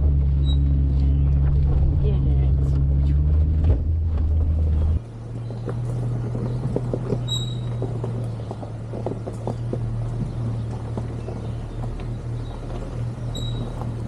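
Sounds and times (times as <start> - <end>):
knocks and creaks from truck: 0.0 - 14.0
off-road vehicle engine running: 0.0 - 14.0.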